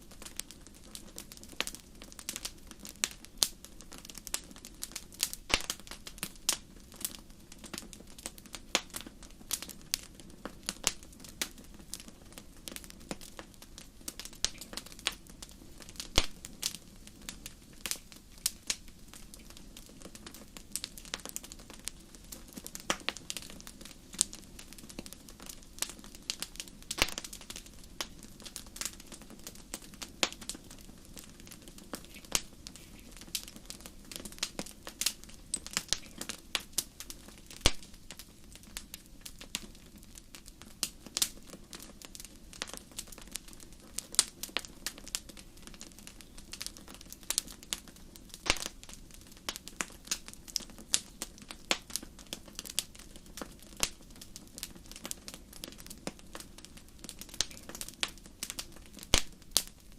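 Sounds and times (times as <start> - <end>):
fire crackling in a fireplace: 0.0 - 59.9.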